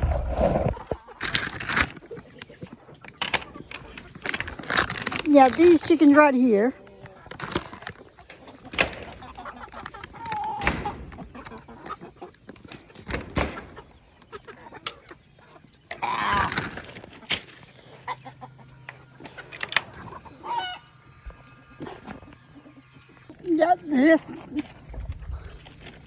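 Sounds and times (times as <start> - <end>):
chickens clucking and calling: 0.0 - 26.0.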